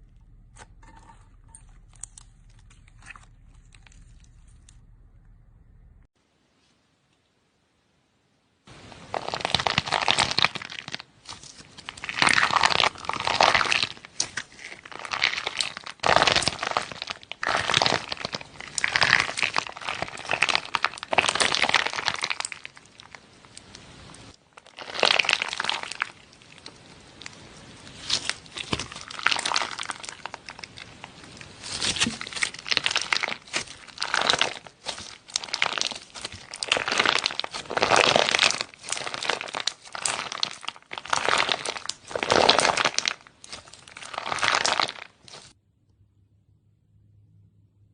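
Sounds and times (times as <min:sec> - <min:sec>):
slime squishing by hand: 0:00.0 - 0:05.0, 0:08.8 - 0:45.6.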